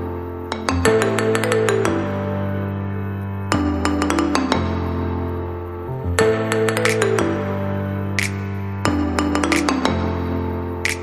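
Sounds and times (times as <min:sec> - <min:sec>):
low background music notes: 0:00.0 - 0:11.0.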